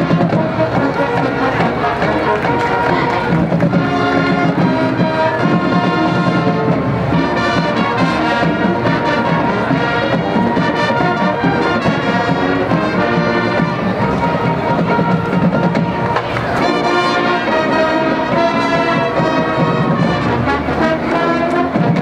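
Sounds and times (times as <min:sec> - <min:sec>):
drums: 0:00.0 - 0:22.0
marching band playing: 0:00.0 - 0:22.0
trumpets and trombones: 0:00.0 - 0:22.0.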